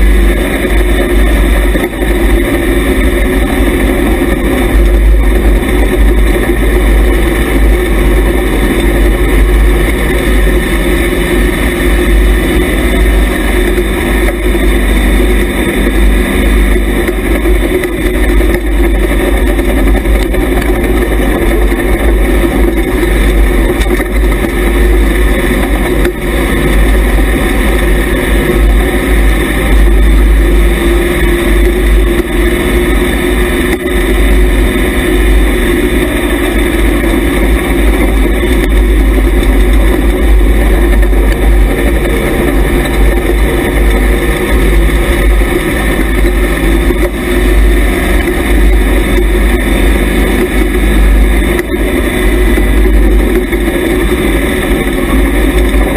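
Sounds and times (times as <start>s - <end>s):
race car engine running hard: 0.0s - 55.9s.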